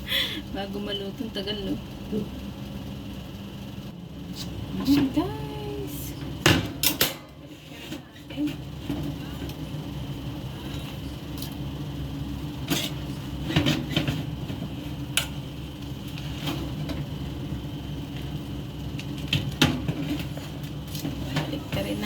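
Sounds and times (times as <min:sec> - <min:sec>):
convection fan humming: 0:00.0 - 0:22.0.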